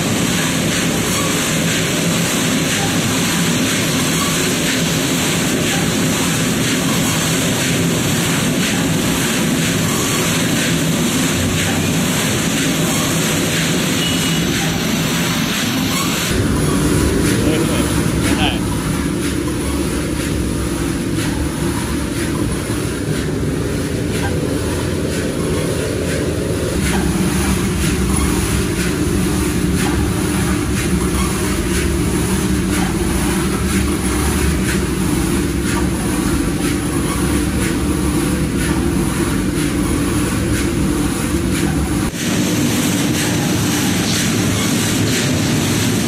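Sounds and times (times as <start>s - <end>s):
drum roaster machine drone: 0.0s - 46.0s.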